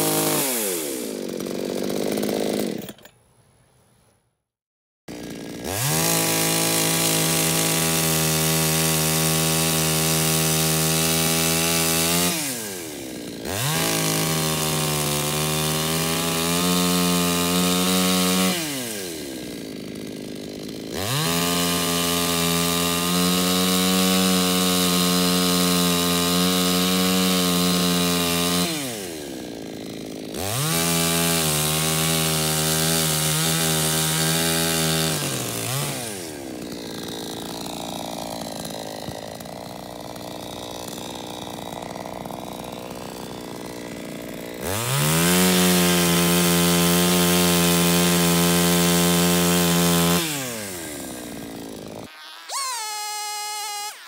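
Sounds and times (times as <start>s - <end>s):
chainsaw cutting a tree: 0.0s - 3.1s, 5.1s - 54.0s.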